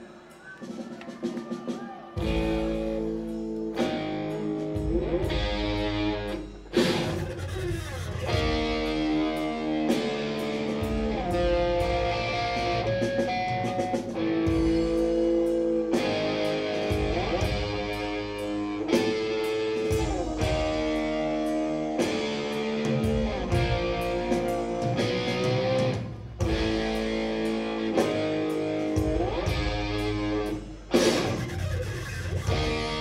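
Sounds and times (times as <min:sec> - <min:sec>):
drums: 0:00.0 - 0:33.0
bass guitar: 0:02.2 - 0:33.0
electric guitar chords: 0:02.2 - 0:33.0.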